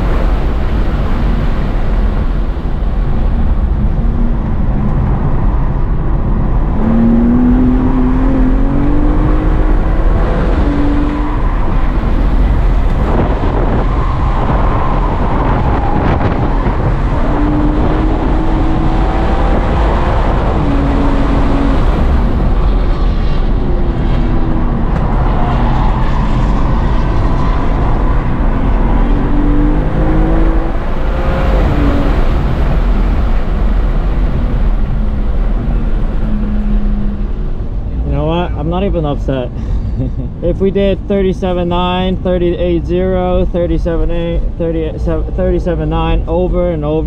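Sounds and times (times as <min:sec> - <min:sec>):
car engine revving: 0:00.0 - 0:47.0
road and wind noise: 0:00.0 - 0:47.0.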